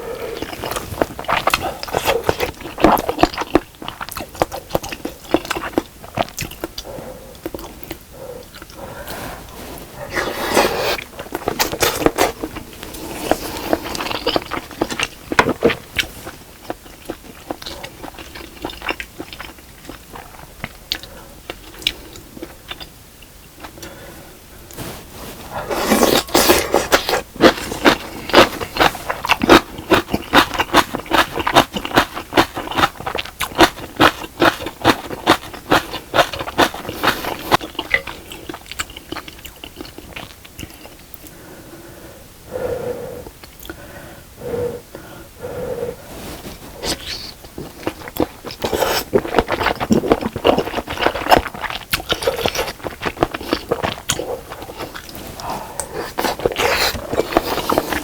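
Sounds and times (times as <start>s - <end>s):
person chewing food: 0.0s - 41.4s, 42.5s - 58.0s.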